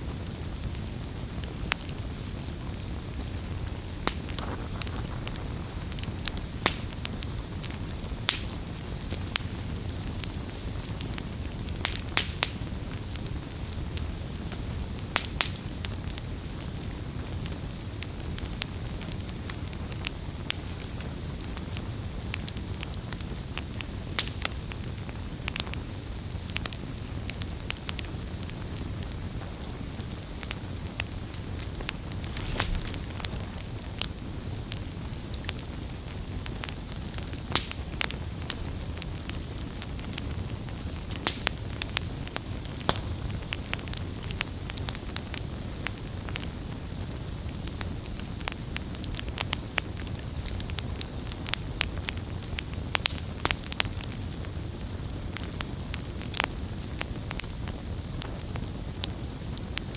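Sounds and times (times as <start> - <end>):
sharp fire pops: 0.0 - 25.8, 27.3 - 59.9
campfire crackling: 0.0 - 59.9.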